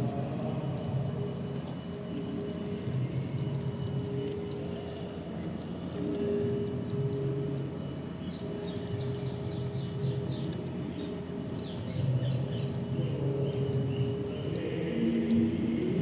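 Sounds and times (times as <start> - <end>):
steady low hum: 0.0 - 16.0
small birds chirping: 0.1 - 16.0.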